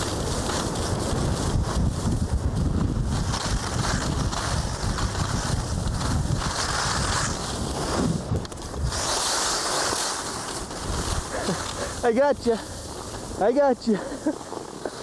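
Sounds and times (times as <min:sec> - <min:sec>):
wind buffeting microphone: 0:00.0 - 0:09.6, 0:10.6 - 0:14.2.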